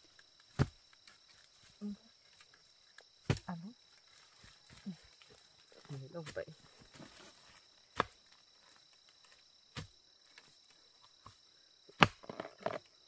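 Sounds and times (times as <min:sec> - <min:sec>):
faint high insect drone: 0:00.0 - 0:13.0.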